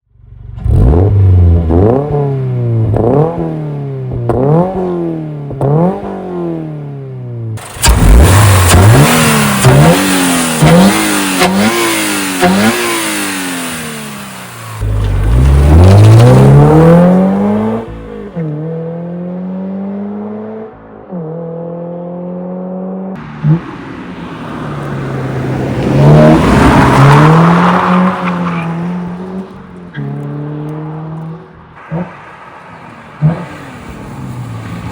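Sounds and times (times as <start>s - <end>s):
car engine revving: 0.6s - 34.9s.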